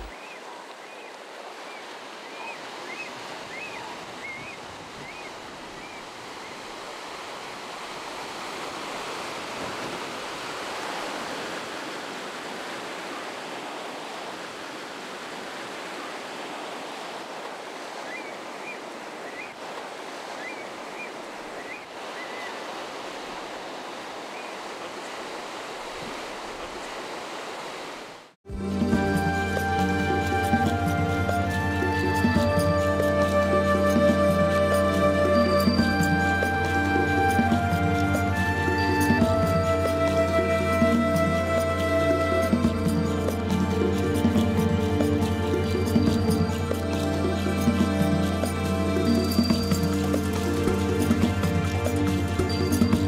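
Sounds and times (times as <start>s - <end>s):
surf over rocky shore: 0.0s - 53.0s.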